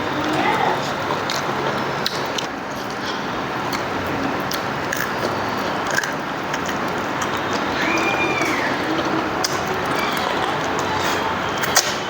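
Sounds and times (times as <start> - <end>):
steady background noise: 0.0 - 12.0
person chewing food: 0.8 - 12.0.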